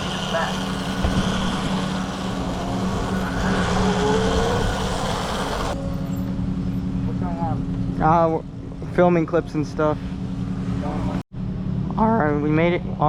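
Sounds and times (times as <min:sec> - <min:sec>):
gliding whine: 0:00.0 - 0:11.2
wind and road noise: 0:00.0 - 0:11.8.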